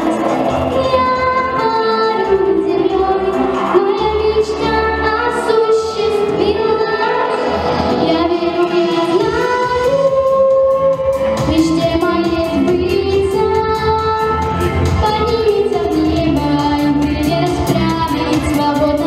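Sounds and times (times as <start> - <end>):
instrumental accompaniment with beat: 0.0 - 19.0
girl singing into microphone: 0.8 - 19.0.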